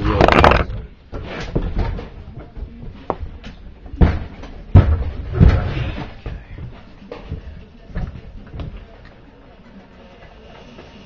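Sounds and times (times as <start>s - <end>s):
knocks and clunks of objects: 0.0s - 9.0s.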